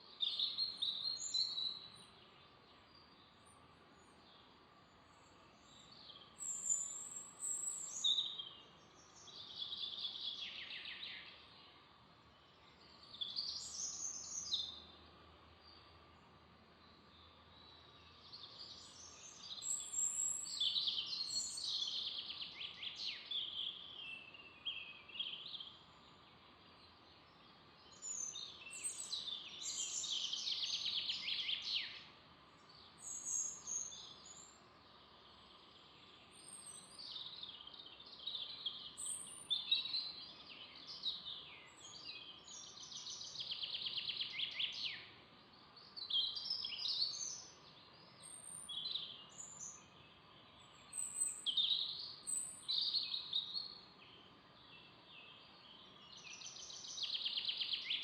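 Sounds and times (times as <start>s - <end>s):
faint background noise: 0.0s - 58.0s
songbirds singing with trills: 0.0s - 58.0s.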